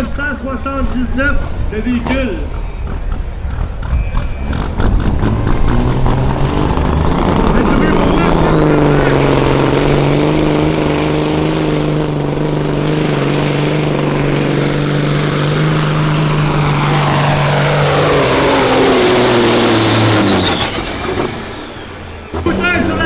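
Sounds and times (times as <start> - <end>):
truck diesel engine under load: 0.0 - 23.0
high steady whine: 1.8 - 23.0.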